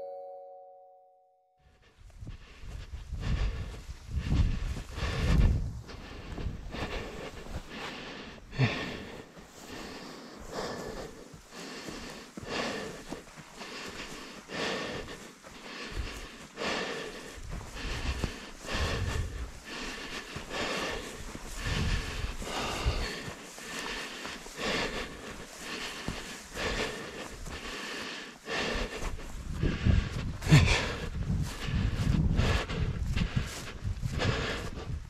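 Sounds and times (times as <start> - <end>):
footsteps swishing in dry grass: 2.1 - 35.0.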